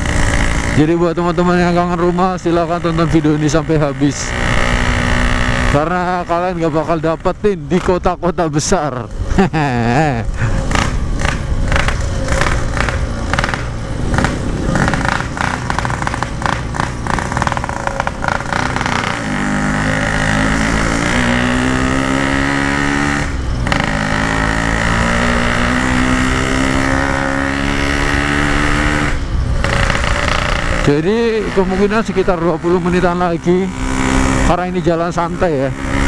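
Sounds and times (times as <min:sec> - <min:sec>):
two-stroke motorcycle engine: 0:00.0 - 0:36.0.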